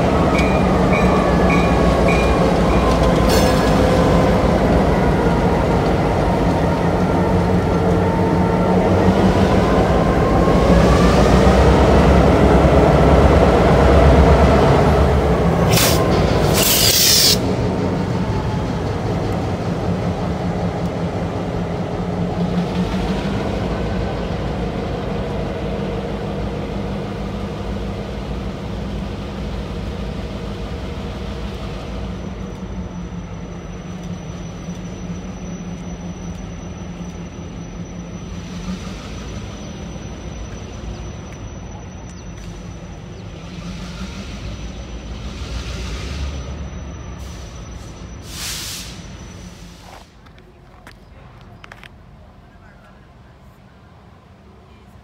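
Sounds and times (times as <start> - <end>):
locomotive engines droning: 0.0 - 55.0.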